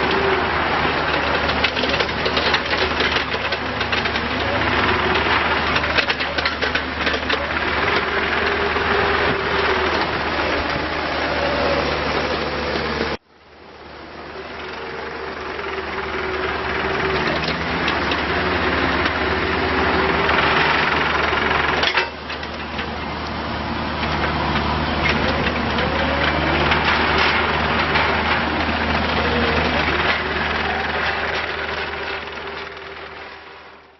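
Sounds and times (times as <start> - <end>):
diesel engine running: 0.0 - 33.9
wavering whine: 0.0 - 33.9.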